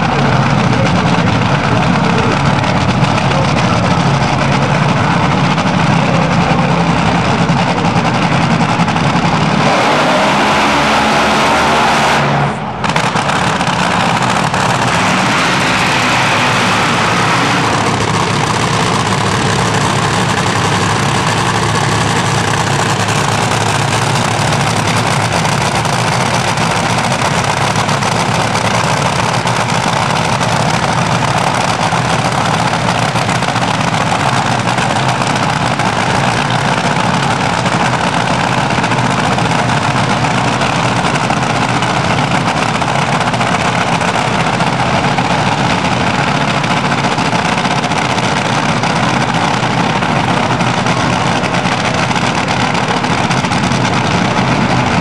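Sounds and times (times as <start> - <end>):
dragster engine idling and revving: 0.0 - 55.0.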